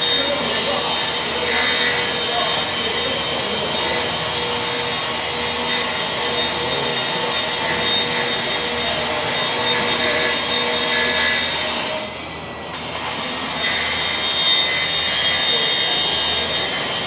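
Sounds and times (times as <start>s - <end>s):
angle grinder grinding concrete: 0.0s - 17.0s.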